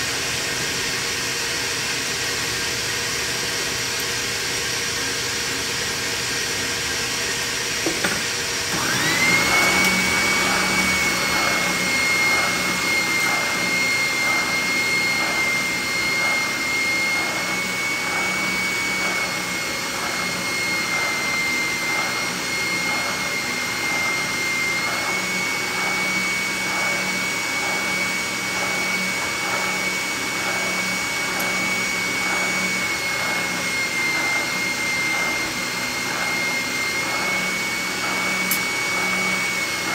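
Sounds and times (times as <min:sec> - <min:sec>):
shop vacuum rushing air: 0:00.0 - 0:39.9
spindle sander whining: 0:00.0 - 0:39.9.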